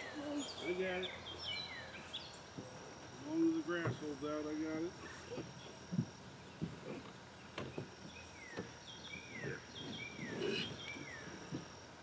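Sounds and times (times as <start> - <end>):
high insect buzz: 0.0 - 12.0.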